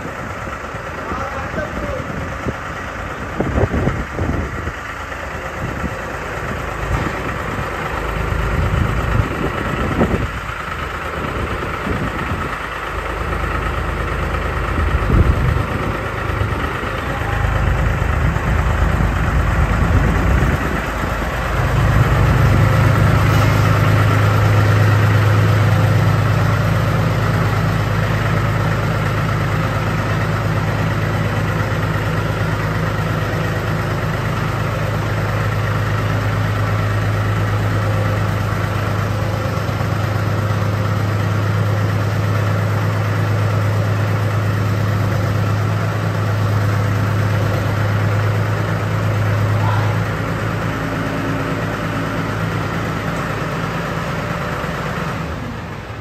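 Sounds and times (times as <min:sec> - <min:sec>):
machine engine droning: 0:00.0 - 0:56.0.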